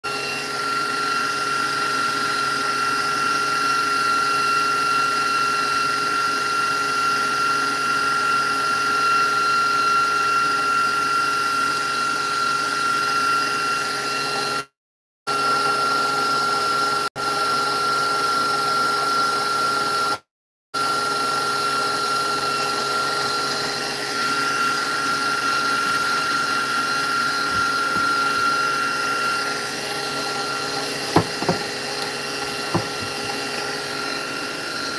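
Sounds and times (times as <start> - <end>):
electric mixer whining: 0.0 - 14.7, 15.3 - 20.2, 20.8 - 34.9.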